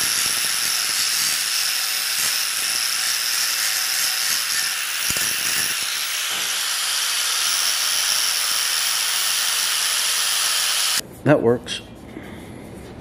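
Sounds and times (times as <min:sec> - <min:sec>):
sanding disc grinding metal: 0:00.0 - 0:11.0.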